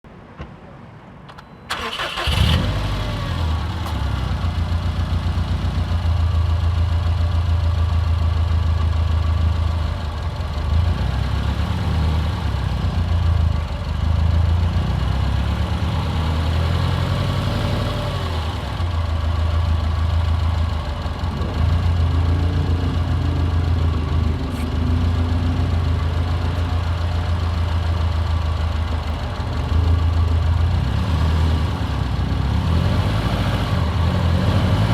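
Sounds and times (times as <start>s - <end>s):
car engine starting and idling: 1.3s - 34.9s.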